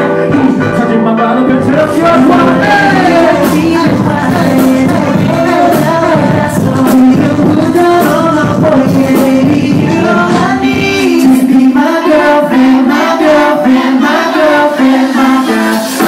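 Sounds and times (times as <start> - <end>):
hip-hop backing track: 0.0 - 16.0
man singing into a microphone: 0.0 - 16.0.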